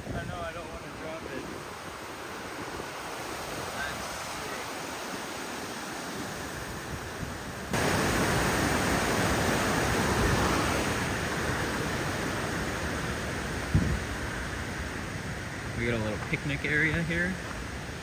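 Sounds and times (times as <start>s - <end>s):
river rapids rushing: 0.5s - 18.0s.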